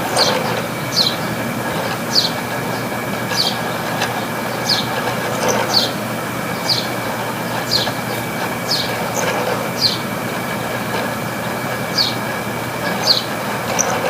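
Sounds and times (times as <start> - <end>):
air conditioner whirring: 0.0 - 14.0.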